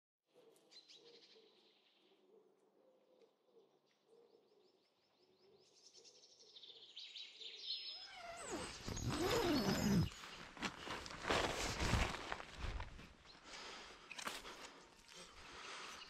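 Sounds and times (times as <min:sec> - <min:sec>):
faint birdsong chirps: 0:00.3 - 0:11.2, 0:13.0 - 0:16.0.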